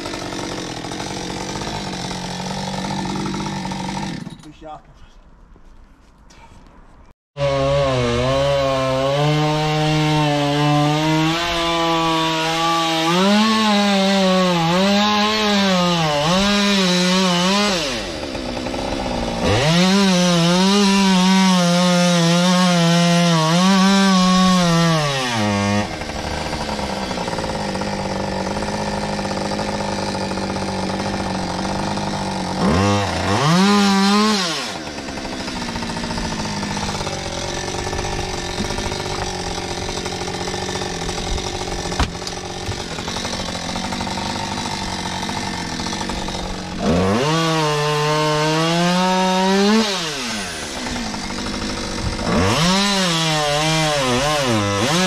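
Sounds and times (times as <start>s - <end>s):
chainsaw cutting wood: 0.0s - 4.8s, 7.4s - 55.0s.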